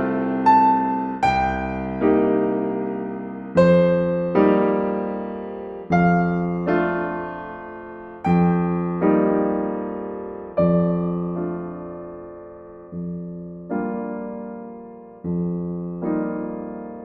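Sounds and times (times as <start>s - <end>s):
slow gentle solo piano: 0.0s - 17.0s.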